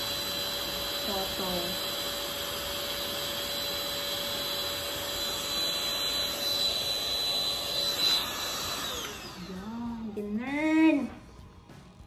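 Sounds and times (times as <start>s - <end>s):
stick vacuum cleaner whirring: 0.0s - 12.0s.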